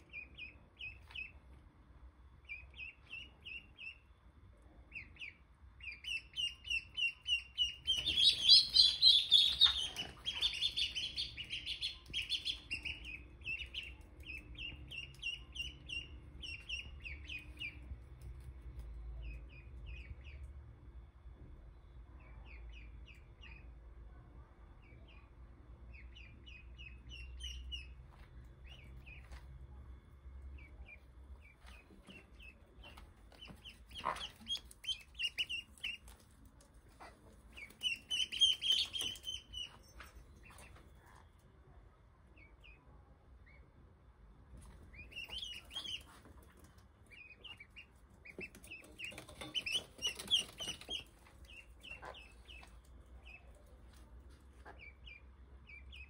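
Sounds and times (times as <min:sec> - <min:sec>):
ducklings peeping: 0:00.0 - 0:01.6, 0:02.4 - 0:20.8, 0:22.2 - 0:23.9, 0:24.8 - 0:29.6, 0:30.4 - 0:41.4, 0:42.2 - 0:43.9, 0:44.6 - 0:56.0.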